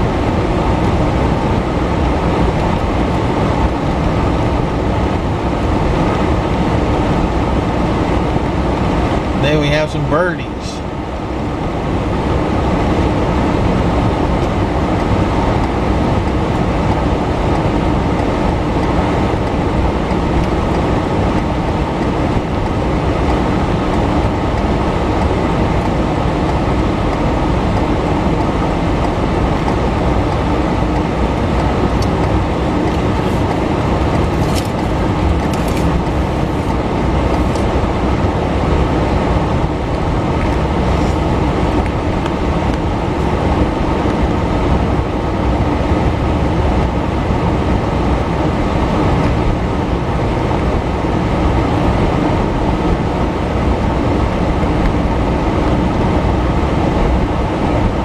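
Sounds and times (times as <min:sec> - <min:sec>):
car interior road and engine noise: 0:00.0 - 0:58.0.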